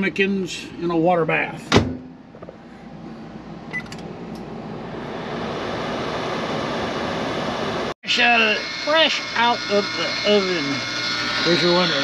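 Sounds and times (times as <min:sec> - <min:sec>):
microwave fan whirring hum: 0:00.0 - 0:12.0.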